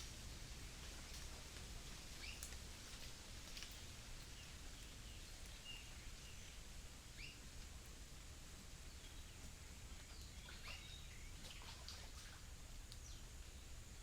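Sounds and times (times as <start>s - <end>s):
low steady rumble: 0.0s - 14.0s
steady hiss: 0.0s - 14.0s.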